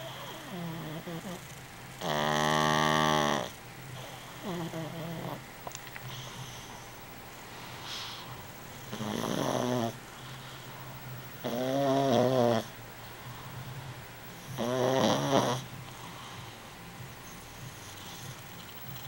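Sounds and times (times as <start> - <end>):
quiet breathing: 0.0 - 1.5, 2.4 - 19.0
pet snoring: 0.0 - 5.5, 6.1 - 7.0, 7.8 - 10.7, 11.4 - 16.6, 17.2 - 19.0.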